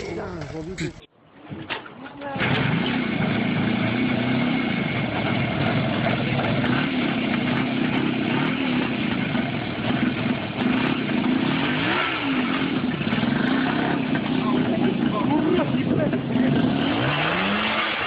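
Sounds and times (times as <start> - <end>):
motorcycle engine revving: 2.4 - 18.0.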